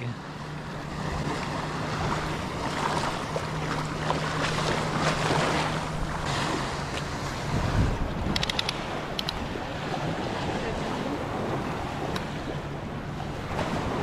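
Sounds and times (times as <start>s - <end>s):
small waves lapping: 0.0s - 14.0s
wind on microphone: 1.0s - 14.0s.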